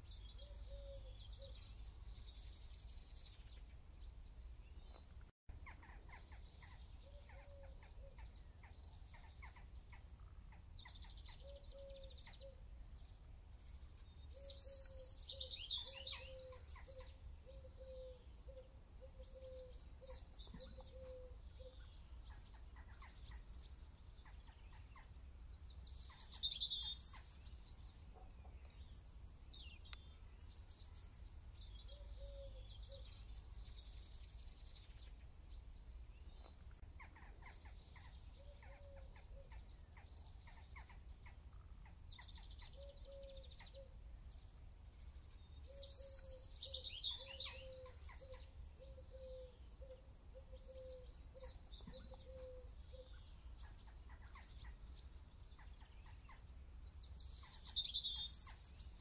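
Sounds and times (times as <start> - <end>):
birds chirping and singing: 0.0 - 59.0.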